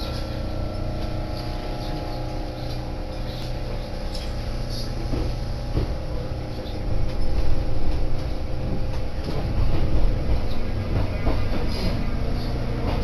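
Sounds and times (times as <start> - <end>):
train motor hum: 0.0 - 13.0
train wheel rumble: 0.0 - 13.0.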